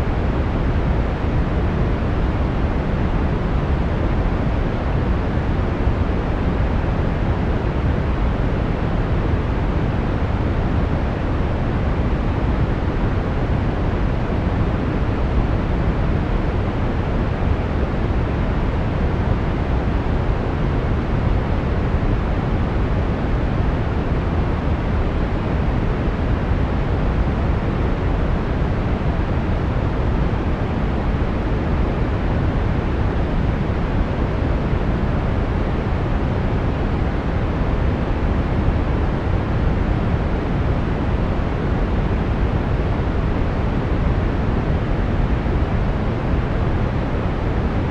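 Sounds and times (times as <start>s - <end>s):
brown noise hiss: 0.0s - 47.9s.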